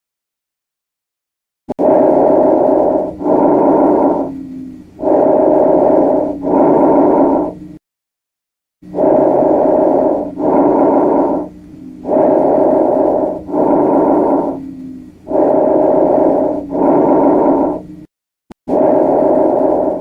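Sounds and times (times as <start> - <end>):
breath sounds through stethoscope: 1.7 - 7.8, 8.9 - 18.1, 18.7 - 20.0.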